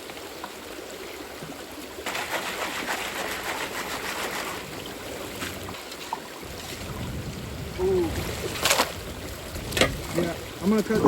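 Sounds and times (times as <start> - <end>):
creek water running: 0.0 - 11.0.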